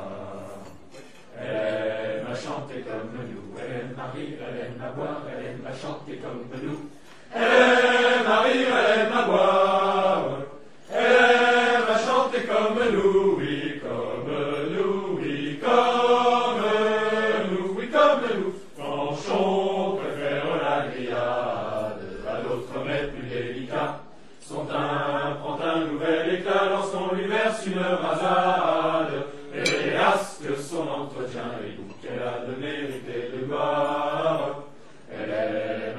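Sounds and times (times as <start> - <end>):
voices singing in unison: 0.0 - 35.9.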